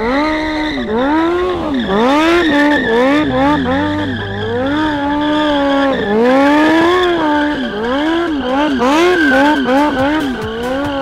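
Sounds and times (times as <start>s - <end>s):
motorcycle engine revving: 0.0s - 11.0s
tyre squealing on tarmac: 0.0s - 11.0s.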